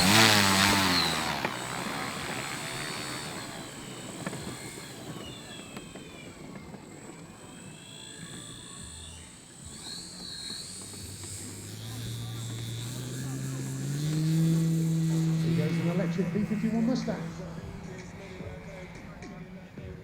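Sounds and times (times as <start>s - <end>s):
model plane motor whine passing: 0.0s - 20.0s.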